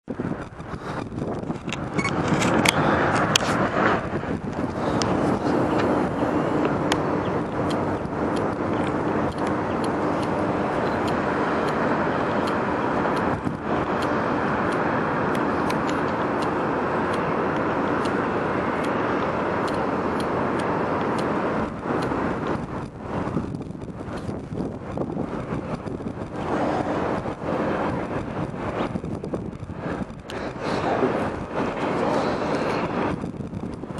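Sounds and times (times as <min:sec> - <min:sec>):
low hum: 0:00.0 - 0:33.9
train wheels rumbling on rails: 0:00.0 - 0:33.9
rail clicks: 0:00.2 - 0:33.9.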